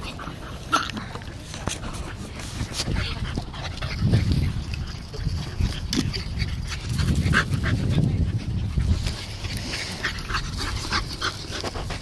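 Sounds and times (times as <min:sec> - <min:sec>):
low rumble on microphone: 0:01.8 - 0:12.0.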